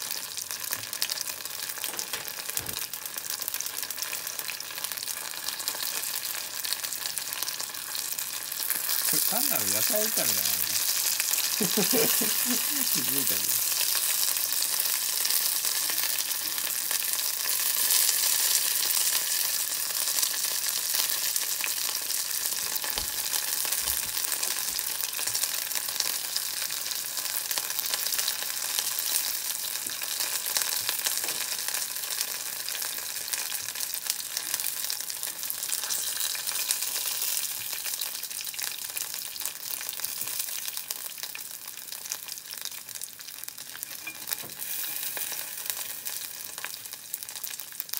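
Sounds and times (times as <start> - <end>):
peppers sizzling in oil: 0.0 - 47.9.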